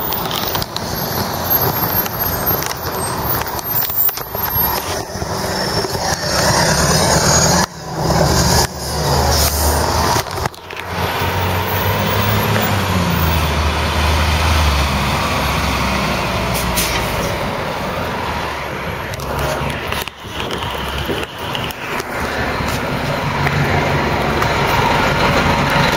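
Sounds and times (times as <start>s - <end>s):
city street traffic: 0.0s - 25.9s
heavy vehicle engine running: 0.0s - 25.9s.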